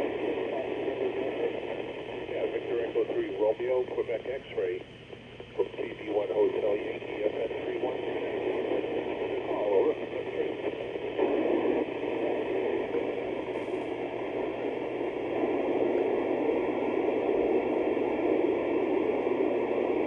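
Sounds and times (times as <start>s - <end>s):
radio receiver hiss: 0.0s - 20.0s.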